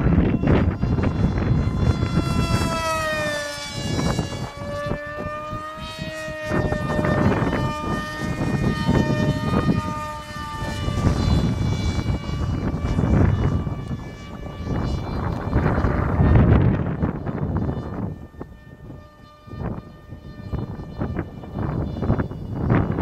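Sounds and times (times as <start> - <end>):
model airplane motor whining: 0.0 - 23.0.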